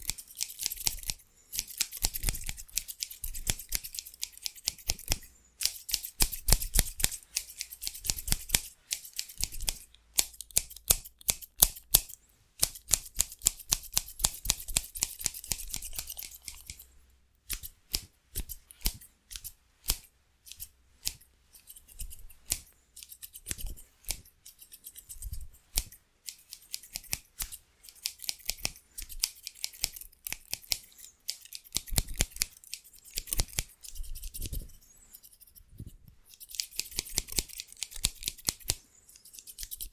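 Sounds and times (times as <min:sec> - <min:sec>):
scissors snipping hair: 0:00.0 - 0:16.9, 0:17.5 - 0:39.9.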